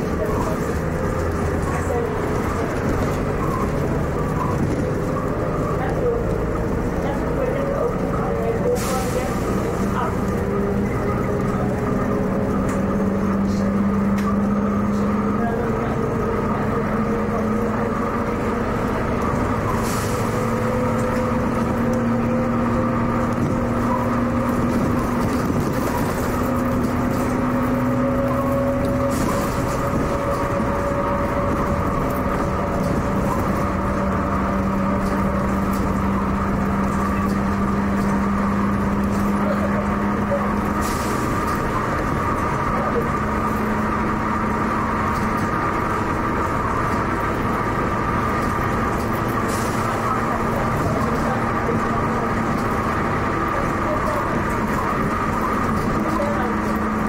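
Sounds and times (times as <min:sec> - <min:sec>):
bus engine drone: 0:00.0 - 0:57.0
rising engine whine: 0:00.0 - 0:57.0.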